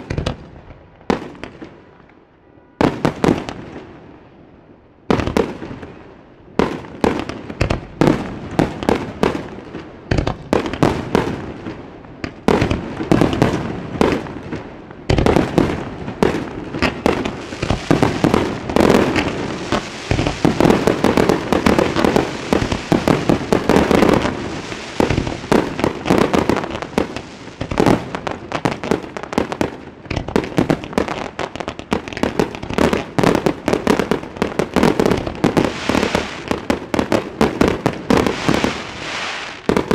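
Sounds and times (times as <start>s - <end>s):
fireworks bursting and crackling: 0.0s - 2.0s, 2.8s - 4.0s, 5.1s - 39.9s.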